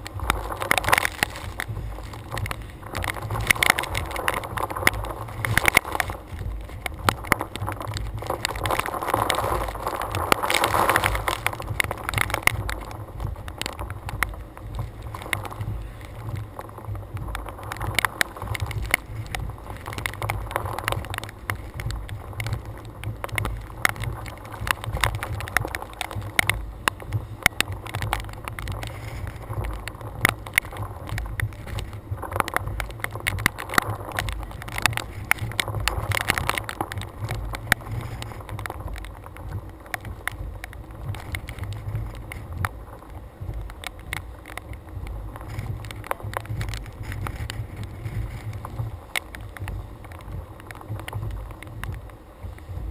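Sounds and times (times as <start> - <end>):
wind buffeting camera: 0.0 - 52.9.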